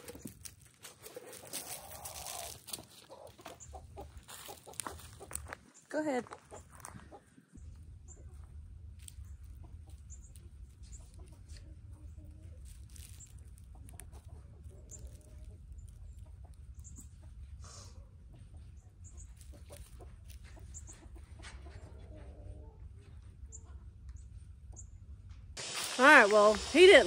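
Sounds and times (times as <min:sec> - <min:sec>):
chickens clucking: 0:00.0 - 0:24.8.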